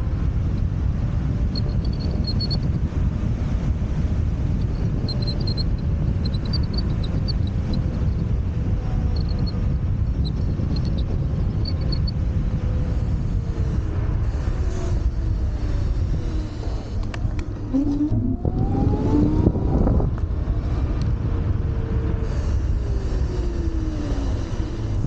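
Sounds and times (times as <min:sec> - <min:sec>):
faint motor whine: 0:00.0 - 0:25.0
road rumble: 0:00.0 - 0:25.0
wind rush: 0:00.0 - 0:25.0.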